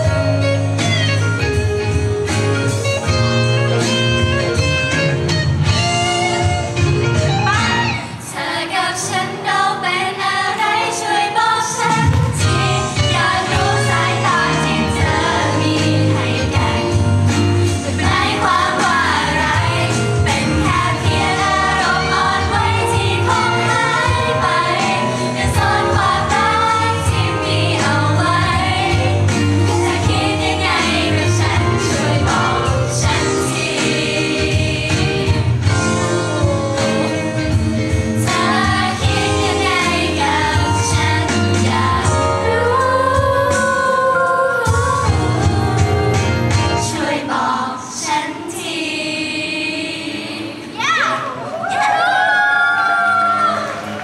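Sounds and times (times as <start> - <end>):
backing music through pa: 0.0 - 54.0
women singing into microphones: 8.2 - 37.6, 38.2 - 52.3.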